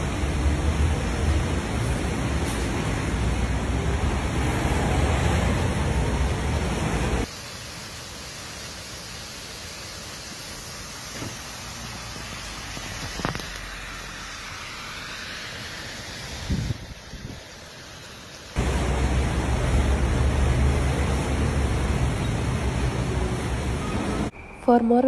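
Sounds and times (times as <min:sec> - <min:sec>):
storm wind and heavy rain: 0:00.0 - 0:08.3, 0:10.7 - 0:24.3
heavy rain hissing: 0:00.0 - 0:24.3.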